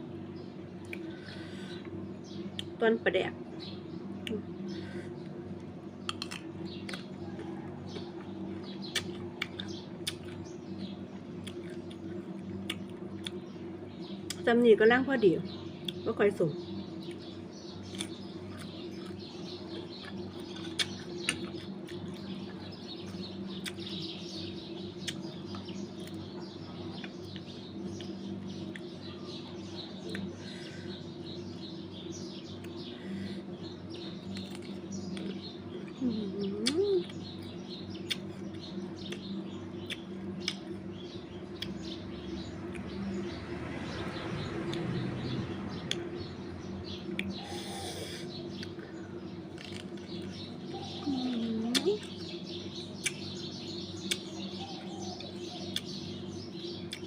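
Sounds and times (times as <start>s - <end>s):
steady low hum: 0.0s - 57.0s
pods cracking and chewing: 0.8s - 2.8s, 4.1s - 14.5s, 16.9s - 30.4s, 32.0s - 43.0s, 47.0s - 47.4s, 48.4s - 57.0s.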